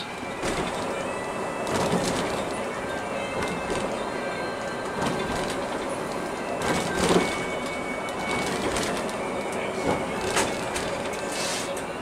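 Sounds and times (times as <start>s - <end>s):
background music: 0.0s - 12.0s
coach road and engine noise: 0.0s - 12.0s
rattles and knocks: 0.4s - 4.1s, 4.8s - 11.2s.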